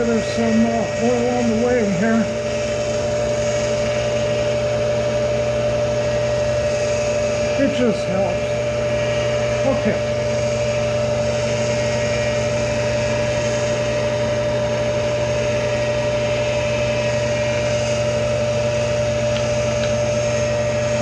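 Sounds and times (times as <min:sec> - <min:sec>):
grinder humming with high tone: 0:00.0 - 0:21.0.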